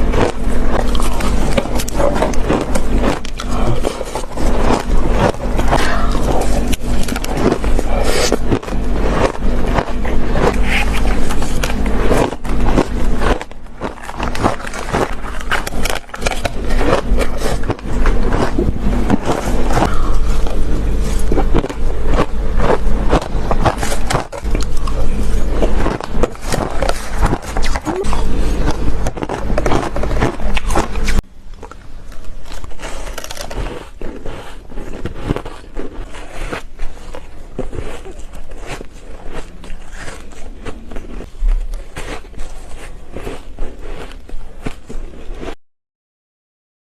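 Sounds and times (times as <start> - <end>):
ice crunching while chewed: 0.0 - 45.6.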